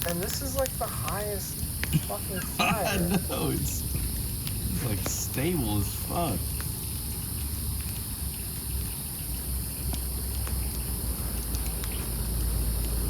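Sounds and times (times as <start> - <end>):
campfire logs crackling: 0.0 - 13.0
low fire rumble and hiss: 0.0 - 13.0.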